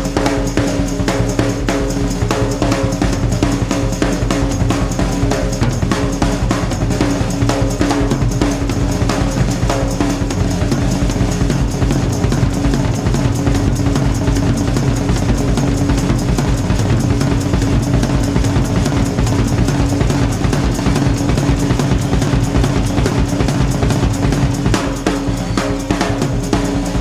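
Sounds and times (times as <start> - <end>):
drum-kit beat: 0.0 - 27.0.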